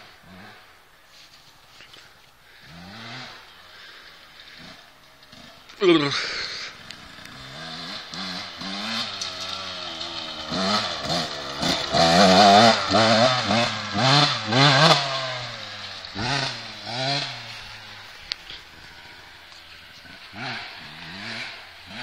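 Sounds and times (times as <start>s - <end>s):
two-stroke engine revving: 0.0s - 0.8s, 2.5s - 22.0s.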